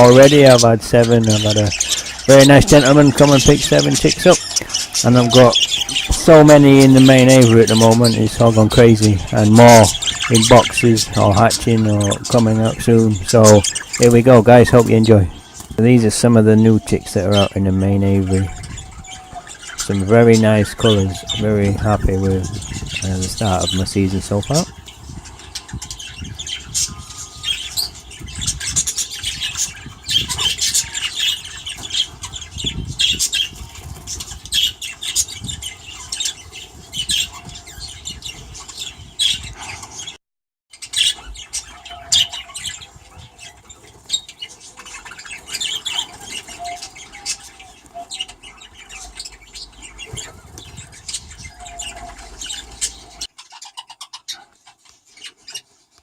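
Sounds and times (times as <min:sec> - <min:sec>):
budgerigars chirping and squawking: 0:00.0 - 0:56.0.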